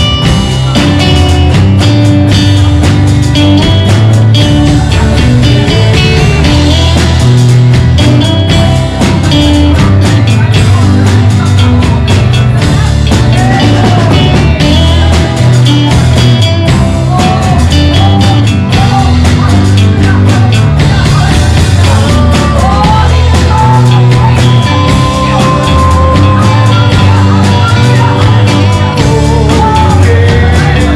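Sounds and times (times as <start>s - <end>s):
drum kit: 0.0s - 30.9s
heavy bass: 0.0s - 30.9s
sliding melody line: 0.0s - 30.9s
worship band playing: 0.0s - 30.9s.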